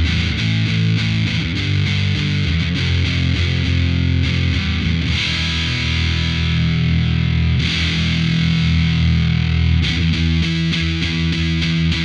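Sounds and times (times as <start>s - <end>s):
fuzz electric guitar riff: 0.0s - 12.0s.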